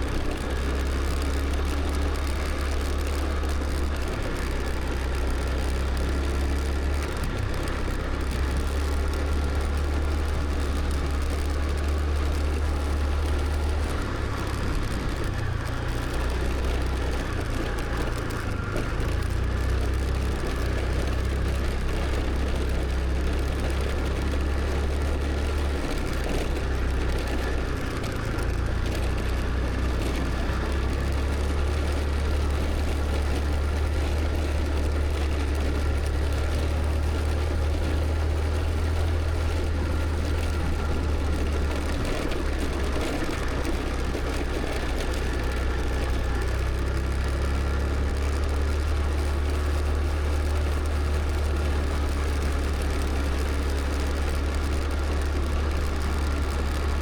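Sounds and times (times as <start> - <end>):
road noise: 0.0 - 57.0
scooter engine hum: 0.0 - 57.0.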